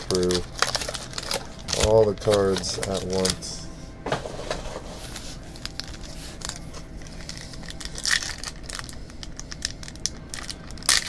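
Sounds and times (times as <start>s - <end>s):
packaging crinkling and tearing: 0.0s - 3.5s, 5.0s - 11.0s.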